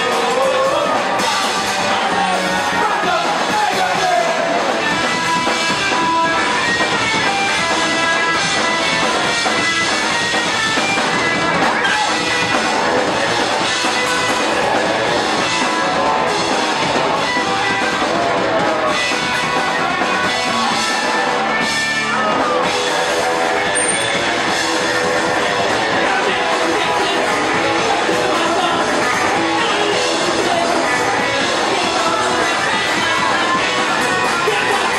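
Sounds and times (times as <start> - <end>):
singer shouting: 0.0 - 5.5, 11.6 - 34.9
distorted guitar: 0.0 - 34.9
electric bass: 0.0 - 34.9
fast drums: 0.0 - 34.9.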